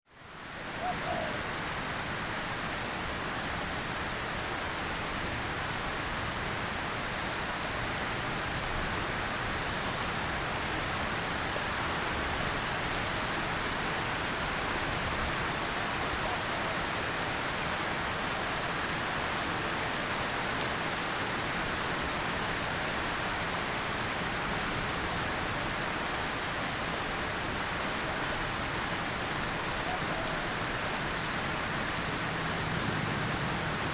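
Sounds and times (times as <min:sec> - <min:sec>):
drizzle rain hiss: 0:00.1 - 0:33.9.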